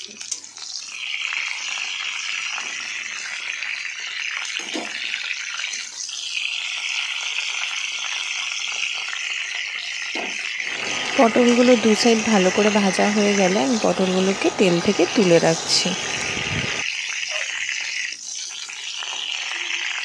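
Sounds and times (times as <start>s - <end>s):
oil sizzling in a wok: 0.0s - 20.0s.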